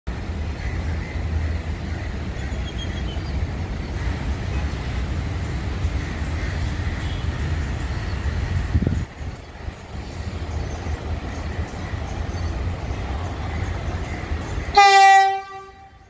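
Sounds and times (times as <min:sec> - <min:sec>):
train rumbling slowly: 0:00.1 - 0:16.0.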